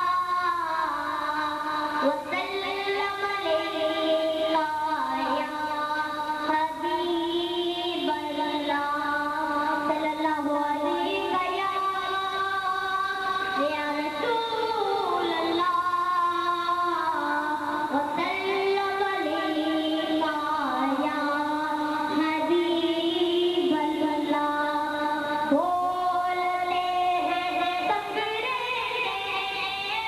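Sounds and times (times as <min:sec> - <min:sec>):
person singing devotional melody: 0:00.0 - 0:30.0.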